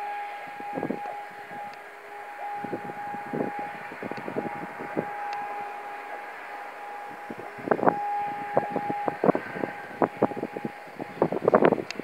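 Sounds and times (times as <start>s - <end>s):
distant siren steady tone: 0.0s - 12.0s
wind buffeting microphone: 0.0s - 12.0s.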